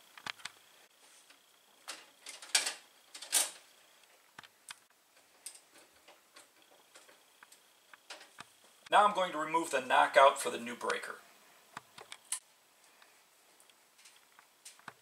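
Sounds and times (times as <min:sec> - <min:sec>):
wire rustling: 0:00.0 - 0:08.9, 0:11.8 - 0:15.0.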